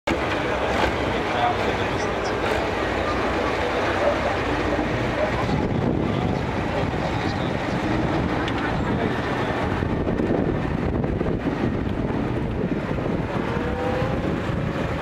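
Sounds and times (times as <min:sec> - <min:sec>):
truck engine under load: 0:00.1 - 0:15.0.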